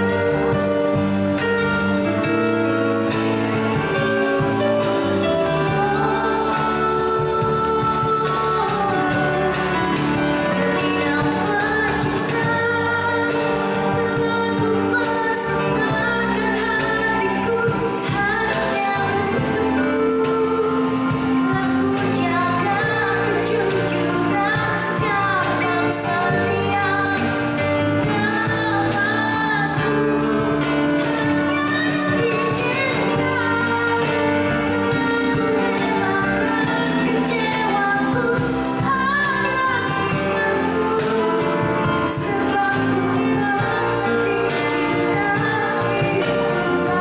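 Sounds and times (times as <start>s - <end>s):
live band playing: 0.0s - 47.0s
woman singing into a microphone: 0.0s - 47.0s.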